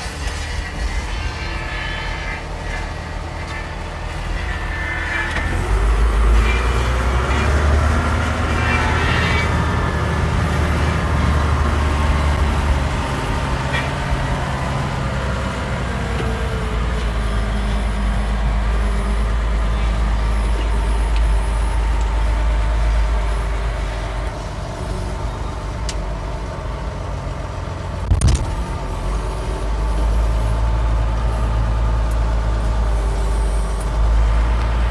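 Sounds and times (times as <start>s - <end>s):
tractor engine under load: 0.0s - 34.9s.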